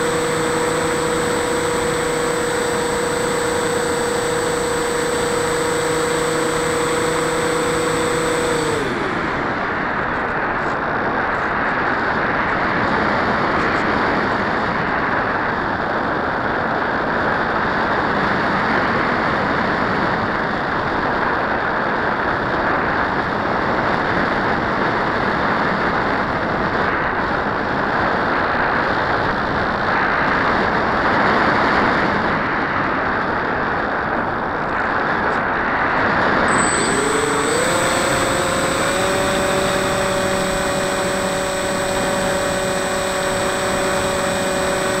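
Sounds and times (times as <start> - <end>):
electric motor and propeller whine: 0.0 - 45.0.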